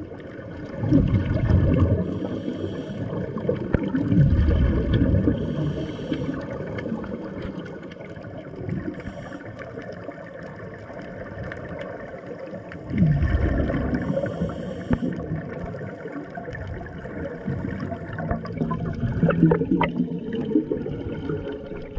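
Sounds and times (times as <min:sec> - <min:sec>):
underwater bubbling rumble: 0:00.0 - 0:21.9.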